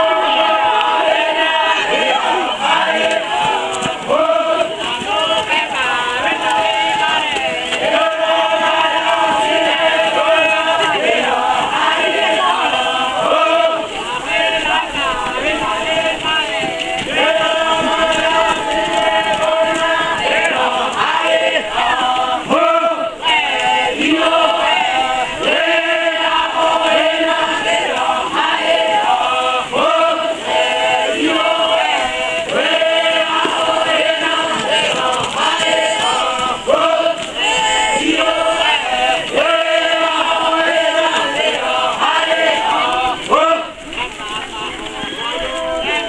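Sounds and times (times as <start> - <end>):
crowd singing and chanting: 0.0 - 46.0.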